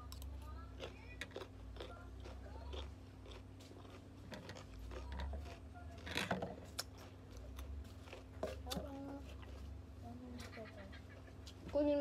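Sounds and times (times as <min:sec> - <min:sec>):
crunching cucumber being chewed: 0:00.0 - 0:10.5.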